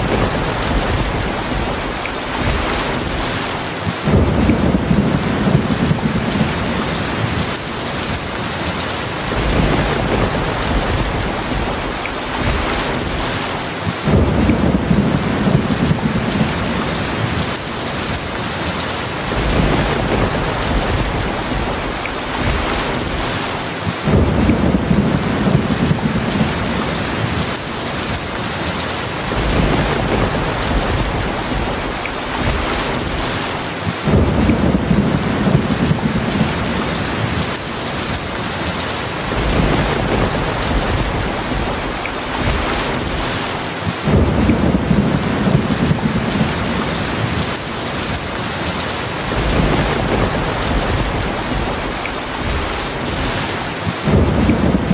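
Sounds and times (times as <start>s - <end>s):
heavy rain hissing: 0.0s - 54.9s
thunder rumbling: 0.0s - 54.9s.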